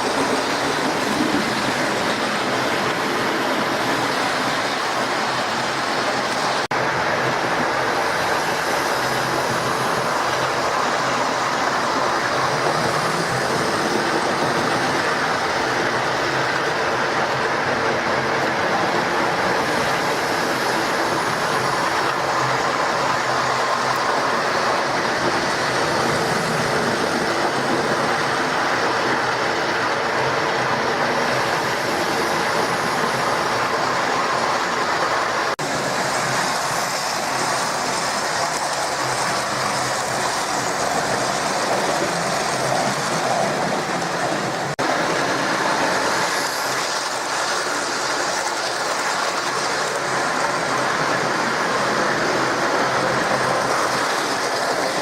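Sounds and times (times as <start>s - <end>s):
model train running on rails: 0.0s - 55.0s.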